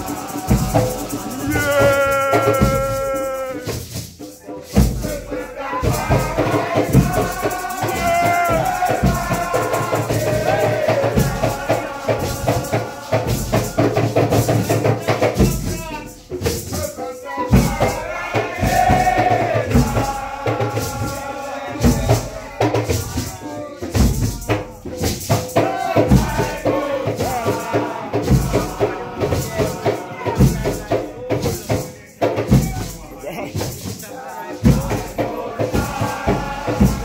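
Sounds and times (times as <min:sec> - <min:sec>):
group of voices chanting: 0:00.0 - 0:03.8, 0:04.4 - 0:16.1, 0:16.7 - 0:24.6, 0:25.5 - 0:31.9, 0:32.5 - 0:37.0
hand drums beating: 0:00.0 - 0:37.0
shaker rattling: 0:00.0 - 0:37.0.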